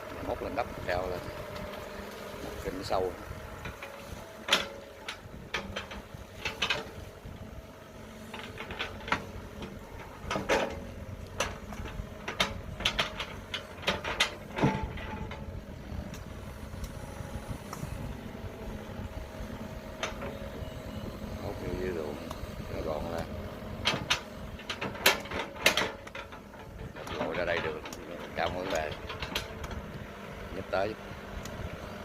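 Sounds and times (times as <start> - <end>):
excavator diesel engine running: 0.0 - 32.0
excavator clanks and knocks: 0.1 - 32.0.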